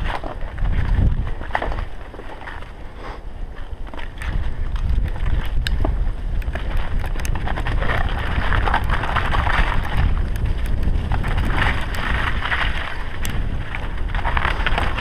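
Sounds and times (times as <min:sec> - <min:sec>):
bicycle tyres rumbling: 0:00.0 - 0:15.0
bike rattles and clicks: 0:00.0 - 0:15.0
wind buffeting microphone: 0:00.0 - 0:15.0.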